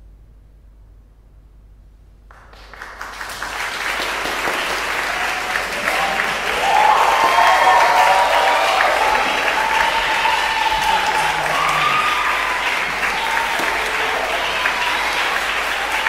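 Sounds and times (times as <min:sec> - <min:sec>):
audience applauding: 0:02.3 - 0:16.0.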